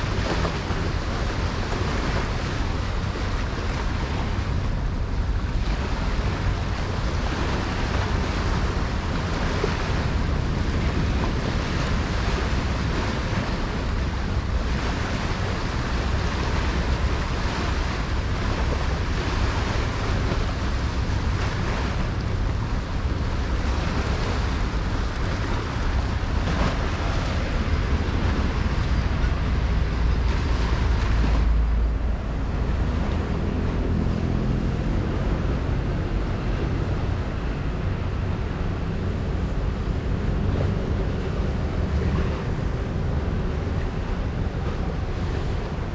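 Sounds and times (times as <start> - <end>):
rushing water: 0.0 - 45.9
wind buffeting microphone: 0.0 - 45.9.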